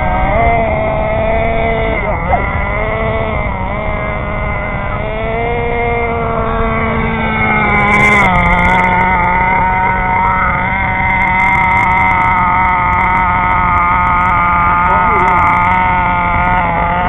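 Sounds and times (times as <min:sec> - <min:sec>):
rc car engines buzzing: 0:00.0 - 0:17.0.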